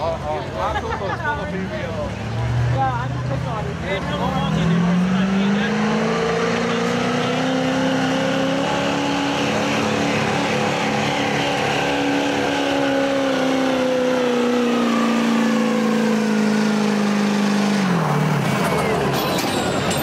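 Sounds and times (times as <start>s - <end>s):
truck engine revving high: 1.8s - 20.0s.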